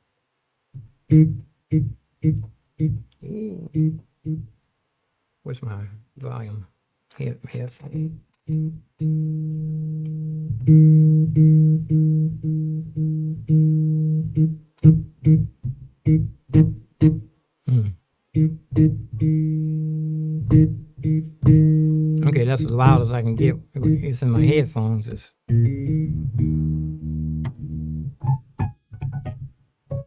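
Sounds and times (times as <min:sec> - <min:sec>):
low bass notes: 0:01.1 - 0:04.5, 0:07.9 - 0:24.7, 0:25.5 - 0:30.0.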